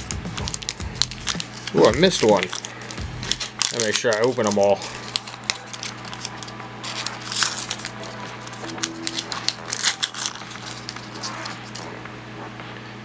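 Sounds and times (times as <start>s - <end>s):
plastic packaging crinkling: 0.4s - 11.9s.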